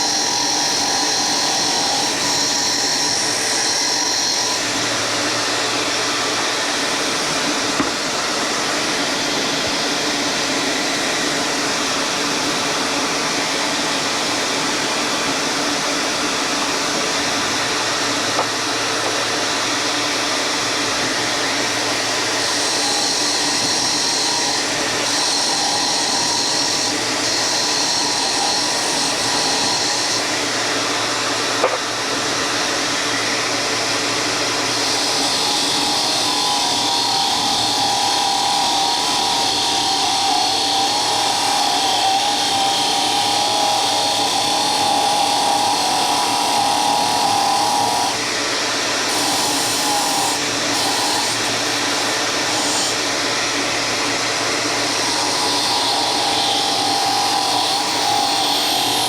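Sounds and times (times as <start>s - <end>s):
power tool running: 0.0s - 59.0s.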